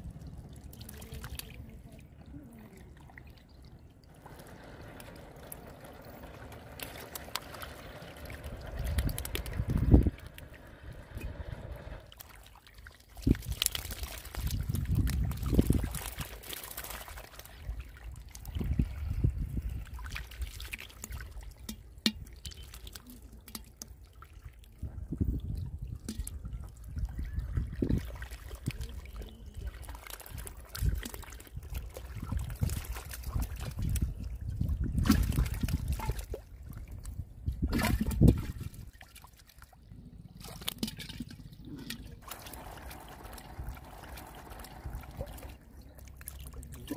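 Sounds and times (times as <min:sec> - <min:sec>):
muddy water trickling and sloshing: 0:00.0 - 0:46.9
fish thrashing and splashing: 0:03.1 - 0:10.9, 0:12.1 - 0:24.7, 0:25.7 - 0:46.9.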